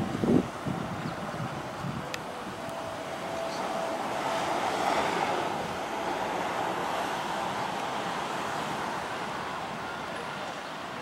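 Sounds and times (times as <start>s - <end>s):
diesel locomotive running: 0.0s - 11.0s.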